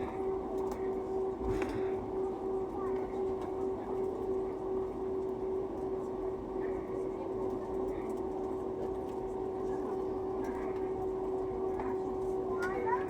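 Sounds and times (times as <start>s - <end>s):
aircraft engines humming: 0.0s - 13.0s
murmur of passengers' voices: 0.0s - 13.0s.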